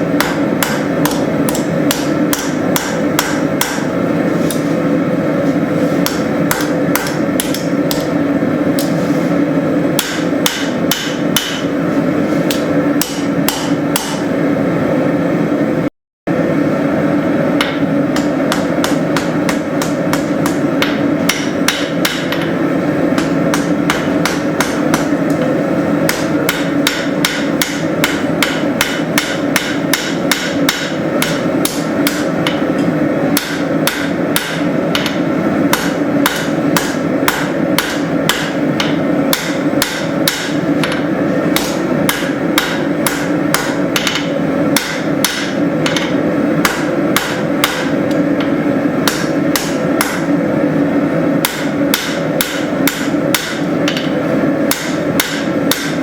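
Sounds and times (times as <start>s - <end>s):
hammer striking steel on anvil: 0.1s - 4.6s, 6.0s - 8.2s, 9.9s - 11.8s, 12.5s - 14.3s, 17.6s - 50.3s, 51.4s - 56.0s.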